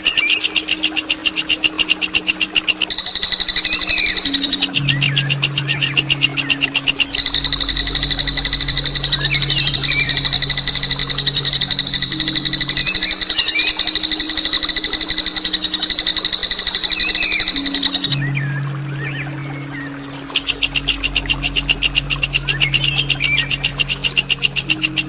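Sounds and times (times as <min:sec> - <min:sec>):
songbird rapid rolling trill: 0:00.0 - 0:18.2, 0:20.3 - 0:25.0
faint bird chirps: 0:00.0 - 0:25.0
steady low hum: 0:00.0 - 0:25.0.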